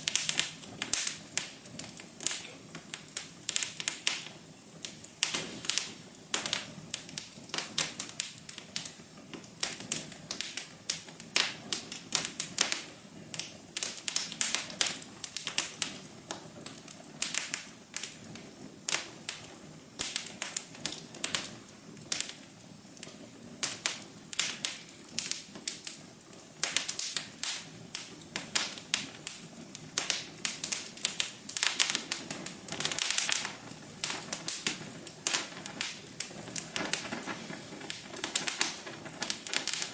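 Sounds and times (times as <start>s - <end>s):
soft steady hum: 0.0s - 39.9s
wood fire crackling: 0.0s - 39.9s.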